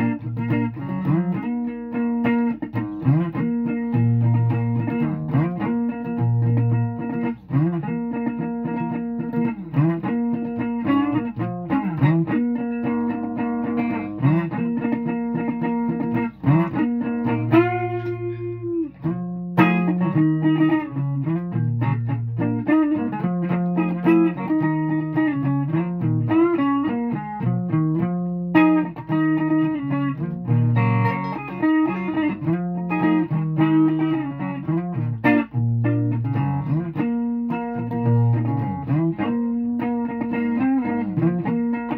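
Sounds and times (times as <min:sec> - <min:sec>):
plucked guitar notes: 0:00.0 - 0:41.9.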